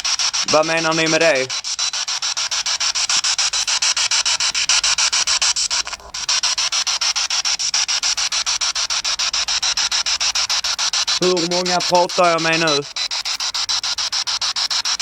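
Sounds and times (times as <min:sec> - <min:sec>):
choppy radio static pulses: 0:00.0 - 0:15.0.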